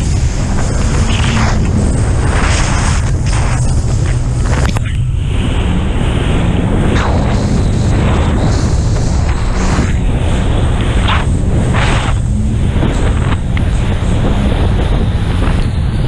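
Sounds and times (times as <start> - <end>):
jet ski engine drone: 0.0 - 16.0
wind buffeting on microphone: 0.0 - 16.0.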